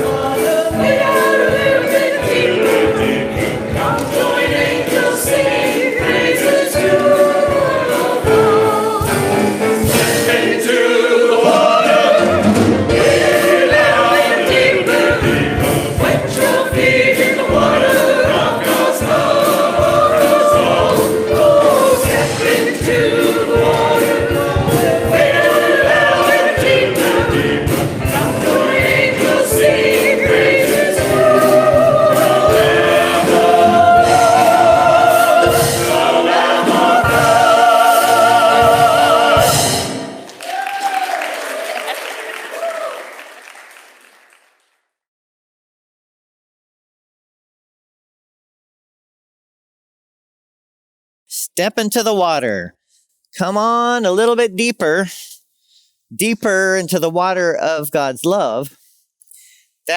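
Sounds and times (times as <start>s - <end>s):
church choir singing gospel: 0.0s - 40.2s, 51.3s - 52.7s, 53.4s - 59.9s.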